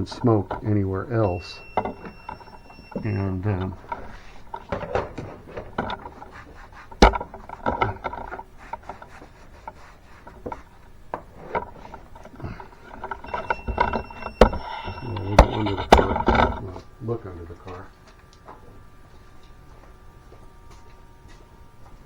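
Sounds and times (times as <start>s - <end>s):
irregular rubbing and scraping: 0.0s - 22.0s.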